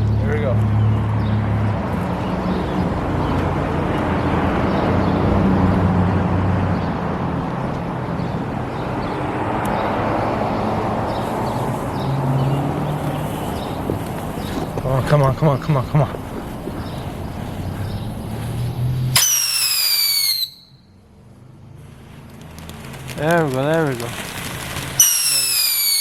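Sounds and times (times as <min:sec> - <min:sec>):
low engine hum of traffic: 0:00.0 - 0:26.0.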